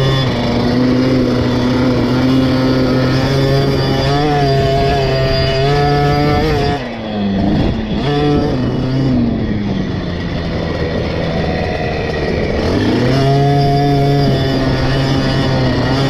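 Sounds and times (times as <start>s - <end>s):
two-stroke minibike engine revving: 0.0s - 16.0s.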